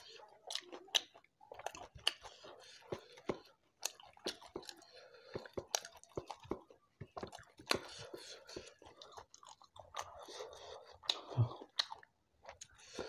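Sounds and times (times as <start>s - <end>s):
close-up chewing with wet smacks: 0.0s - 13.0s.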